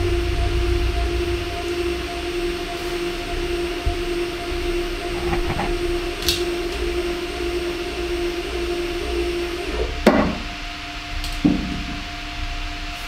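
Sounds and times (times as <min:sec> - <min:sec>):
stepper motor whine: 0:00.0 - 0:11.2.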